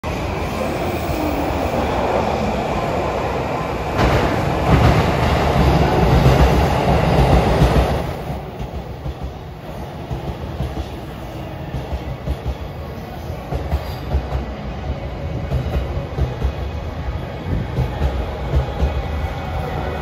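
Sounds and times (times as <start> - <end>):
electric train arriving: 0.0 - 20.0.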